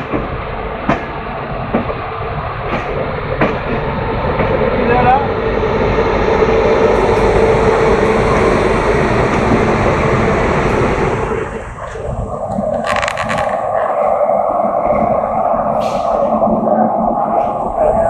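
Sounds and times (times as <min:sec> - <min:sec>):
train rumble: 0:00.0 - 0:18.0
wind noise: 0:00.0 - 0:18.0.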